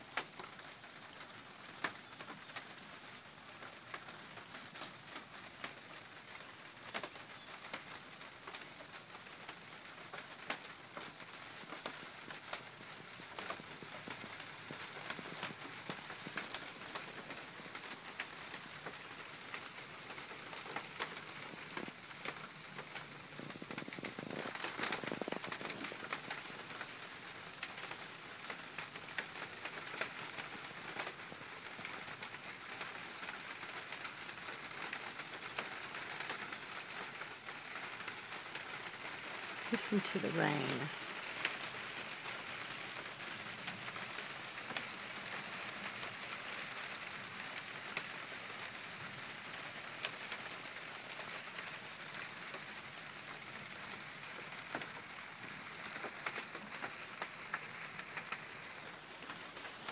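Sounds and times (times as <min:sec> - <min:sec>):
rain on a plastic roof: 0:00.0 - 0:59.9.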